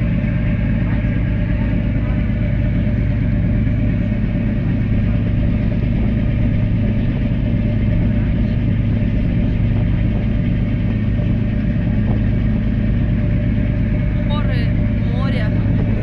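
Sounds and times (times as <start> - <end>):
engine droning steadily: 0.0 - 16.0.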